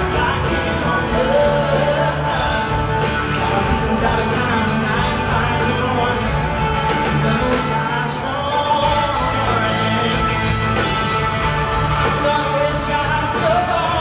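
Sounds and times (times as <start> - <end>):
man singing: 0.0 - 11.0, 11.8 - 14.0
acoustic guitar: 0.0 - 14.0
live country-pop band: 0.0 - 14.0.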